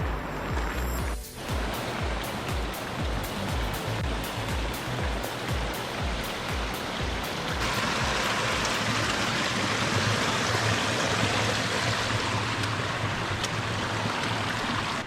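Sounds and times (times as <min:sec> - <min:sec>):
stream cascading over rocks: 0:00.0 - 0:15.0.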